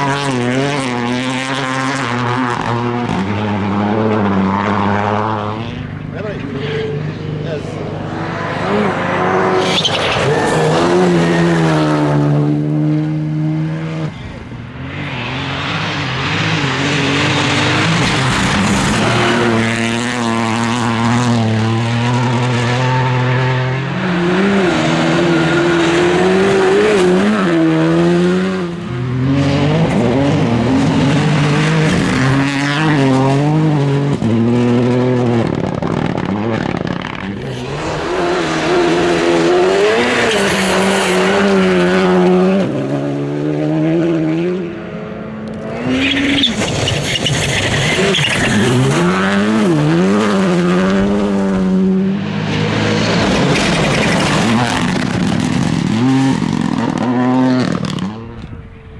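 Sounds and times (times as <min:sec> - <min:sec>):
rally car engines revving hard: 0:00.0 - 0:58.9.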